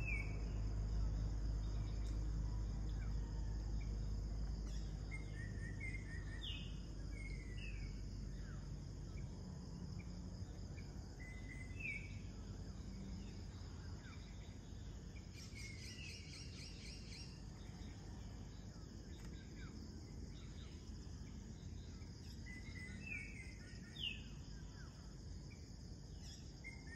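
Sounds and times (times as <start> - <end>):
faint low rumble: 0.0 - 22.9
crickets and insects droning: 0.0 - 26.9.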